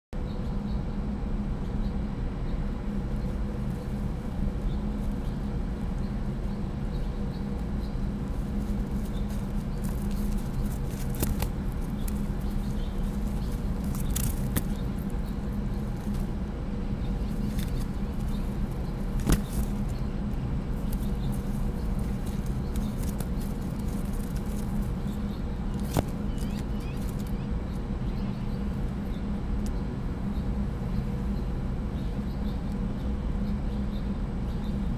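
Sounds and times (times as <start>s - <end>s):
low mechanical hum: 0.2s - 34.9s.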